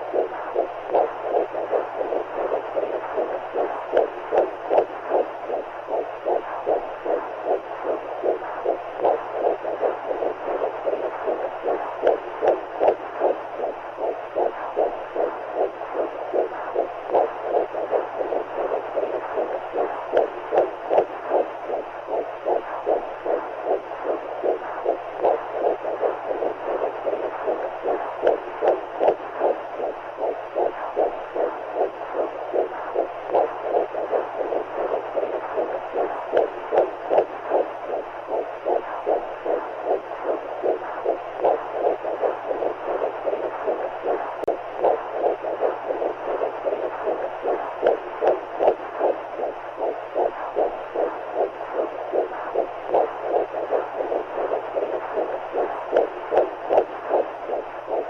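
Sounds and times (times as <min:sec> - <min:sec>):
faint steady hum: 0:00.0 - 0:58.0
heartbeat pulsing in whooshing noise: 0:00.0 - 0:58.0.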